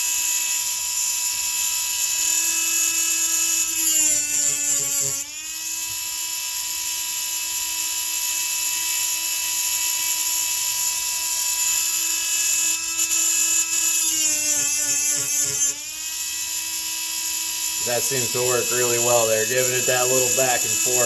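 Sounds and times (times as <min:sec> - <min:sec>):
rotary grinding tool whining: 0:00.0 - 0:21.0.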